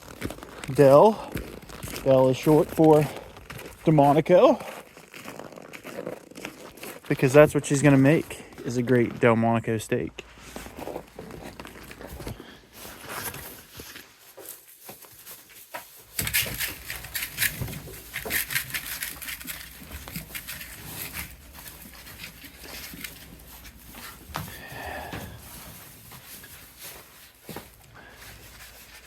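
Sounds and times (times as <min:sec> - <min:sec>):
livestock crunching feed: 0:00.0 - 0:29.0.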